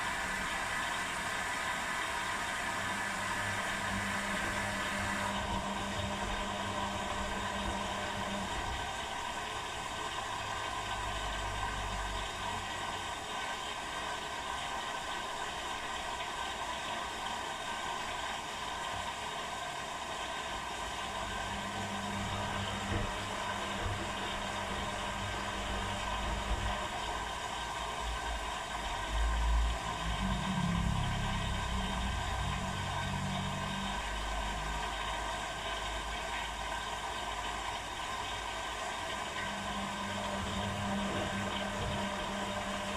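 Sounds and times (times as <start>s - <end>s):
washing machines running: 0.0s - 42.9s.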